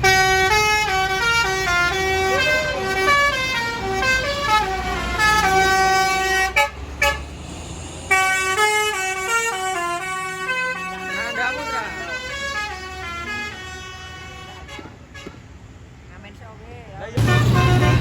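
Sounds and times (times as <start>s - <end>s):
bus horn playing a tune: 0.0s - 7.2s, 8.1s - 15.4s, 17.2s - 18.0s
vehicle engines running: 0.0s - 18.0s.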